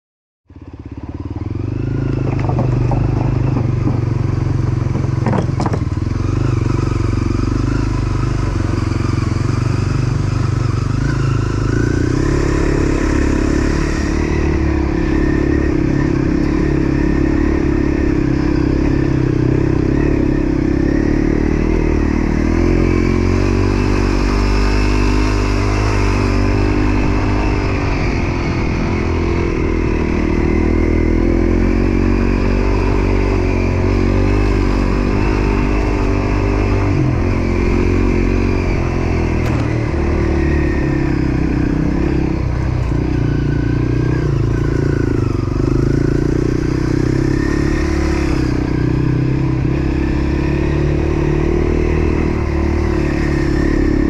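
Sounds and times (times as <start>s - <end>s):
motorcycle engine running: 0.5s - 54.0s.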